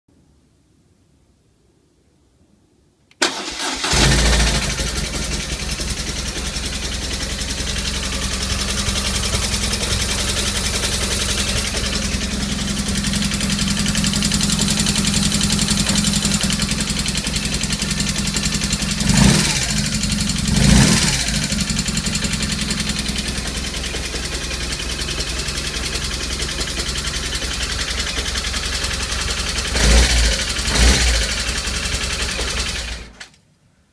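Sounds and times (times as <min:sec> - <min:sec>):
engine clicking: 0:03.1 - 0:33.4
motorcycle engine idling: 0:03.9 - 0:33.2.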